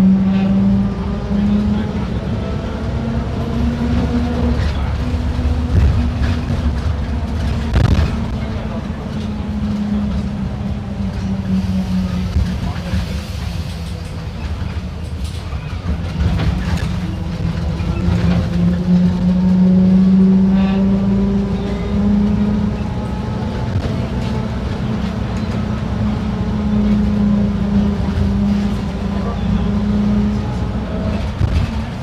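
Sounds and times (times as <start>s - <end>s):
bus diesel engine accelerating: 0.0s - 32.0s.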